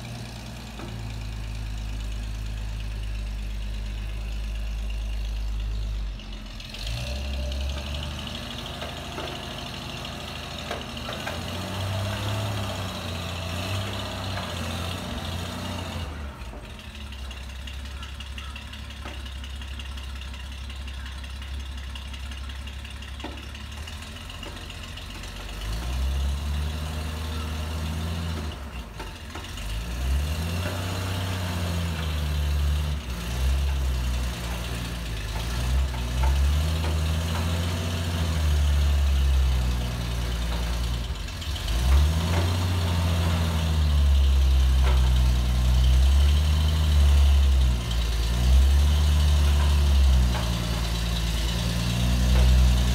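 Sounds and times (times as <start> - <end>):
truck engine idling and revving: 0.0 - 52.9.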